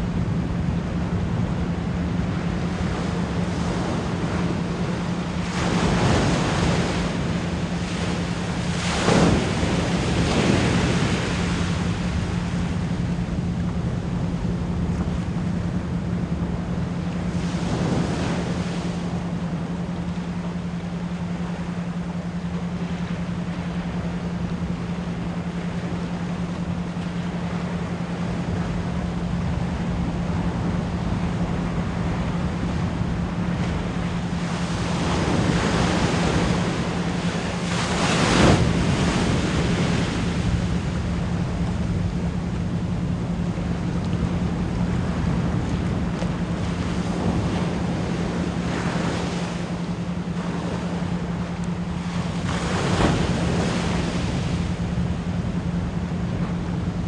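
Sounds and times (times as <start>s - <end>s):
low pure tone: 0.0s - 57.0s
ocean waves breaking: 0.0s - 57.0s.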